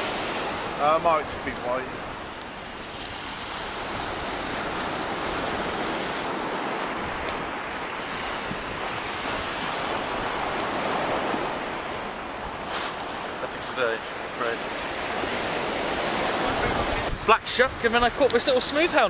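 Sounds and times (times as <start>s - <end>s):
surf breaking on beach: 0.0s - 19.0s
wind on microphone: 0.0s - 19.0s.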